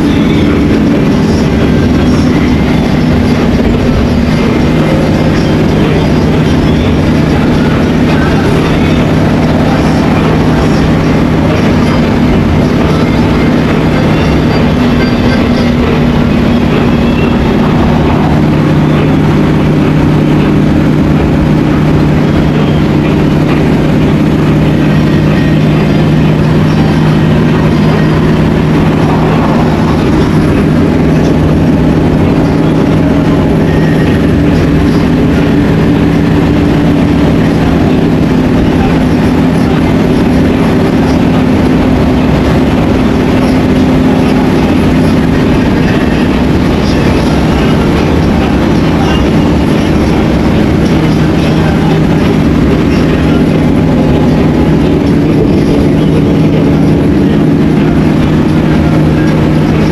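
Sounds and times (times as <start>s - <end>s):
coach engine droning: 0.0s - 59.9s
road and tyre noise: 0.0s - 59.9s.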